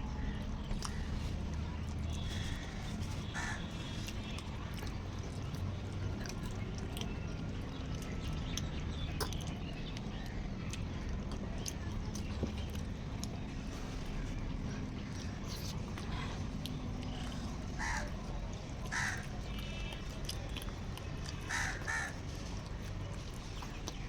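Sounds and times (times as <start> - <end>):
people chewing and crunching food: 0.0 - 24.0.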